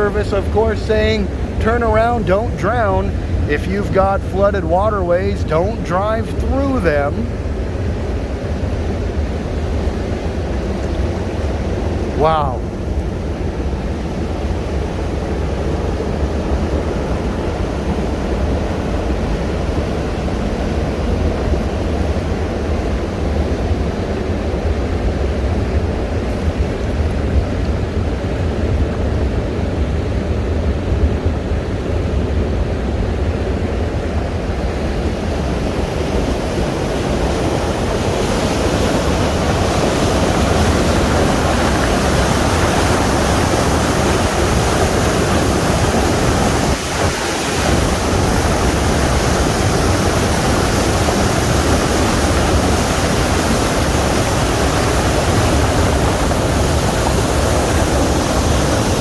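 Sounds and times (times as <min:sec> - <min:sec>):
water rushing over spillway: 0:00.0 - 0:59.0.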